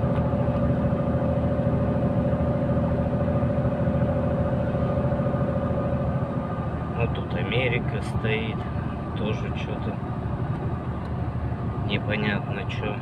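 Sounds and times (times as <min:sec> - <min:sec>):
steady whine: 0:00.0 - 0:13.0
truck diesel engine running: 0:00.0 - 0:13.0.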